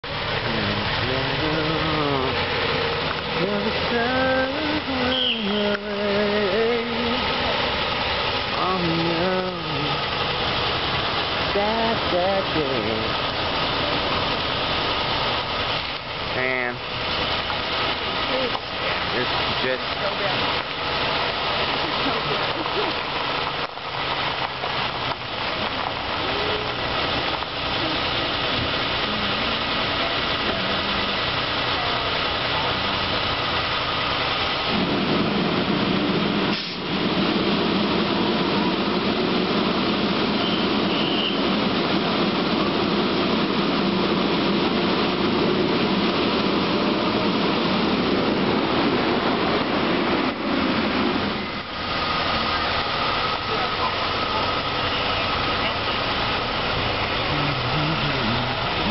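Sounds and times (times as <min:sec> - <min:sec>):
vehicle engines idling: 0:00.0 - 0:58.9
steady rushing noise: 0:05.8 - 0:58.9.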